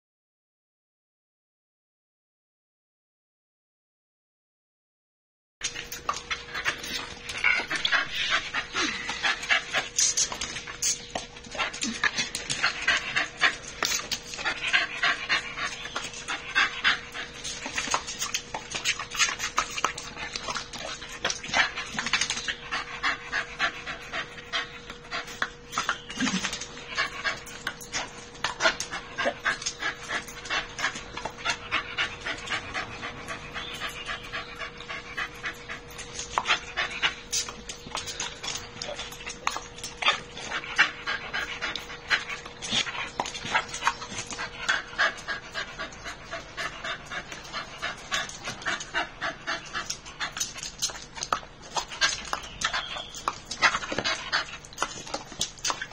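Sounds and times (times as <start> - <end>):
dog panting: 5.6 - 55.9.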